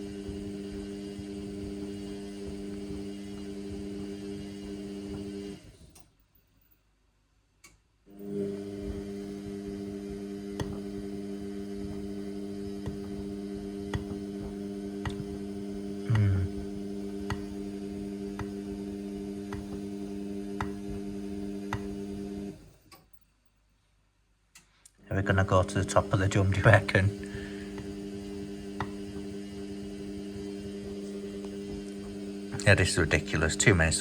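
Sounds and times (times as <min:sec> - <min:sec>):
drain pump humming: 0:00.0 - 0:05.6, 0:08.2 - 0:22.6, 0:25.1 - 0:34.0.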